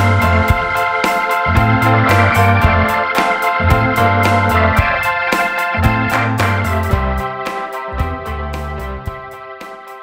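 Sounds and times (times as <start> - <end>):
upbeat soul instrumental music: 0.0 - 10.0.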